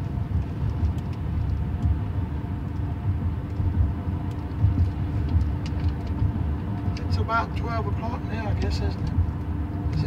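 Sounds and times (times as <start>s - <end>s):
road and engine rumble in cab: 0.0s - 10.0s.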